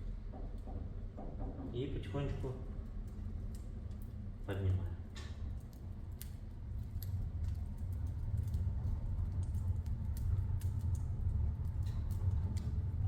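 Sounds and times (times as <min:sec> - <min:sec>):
fire low rumble: 0:00.0 - 0:13.0
firewood crackling and popping: 0:02.2 - 0:13.0.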